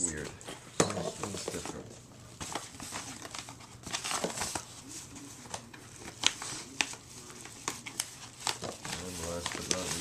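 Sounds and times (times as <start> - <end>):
packaging rustling: 1.0 - 10.0.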